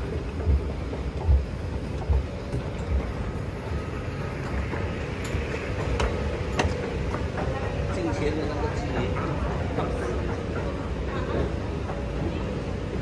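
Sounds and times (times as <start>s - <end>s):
train rumbling with low thuds: 0.0s - 13.0s.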